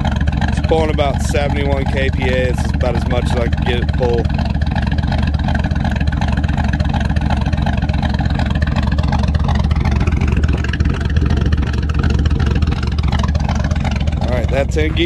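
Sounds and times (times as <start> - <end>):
truck engine choppy idle: 0.0 - 15.0.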